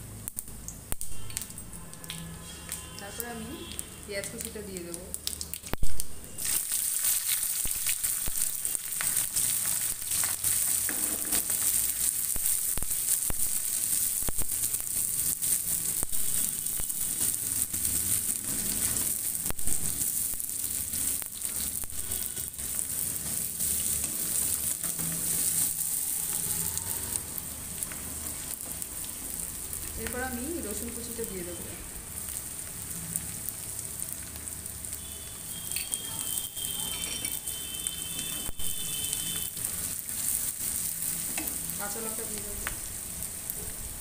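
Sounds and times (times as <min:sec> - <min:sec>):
onions sizzling in hot oil: 0:00.0 - 0:44.0.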